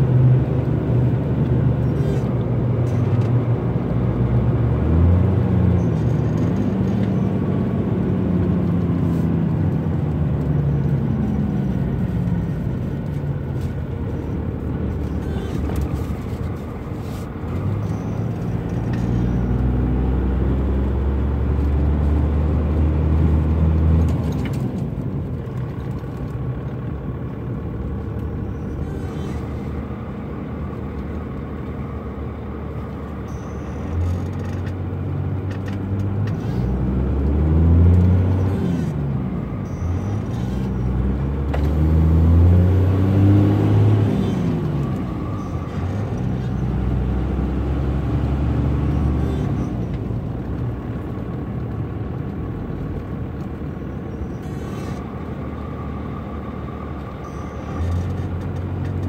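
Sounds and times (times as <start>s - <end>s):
diesel engine accelerating: 0.0s - 59.0s.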